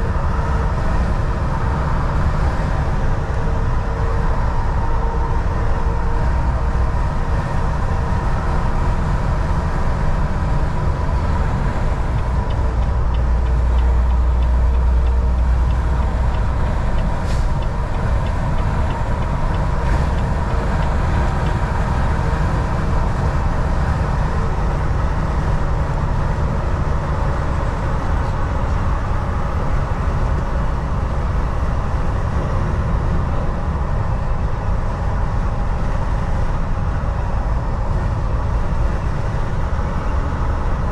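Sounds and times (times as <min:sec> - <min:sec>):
diesel truck engine drone: 0:00.0 - 0:40.9
road noise: 0:00.0 - 0:40.9.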